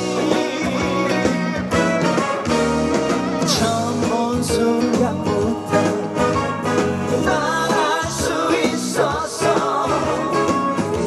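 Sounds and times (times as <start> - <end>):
amplified backing music: 0.0 - 11.0.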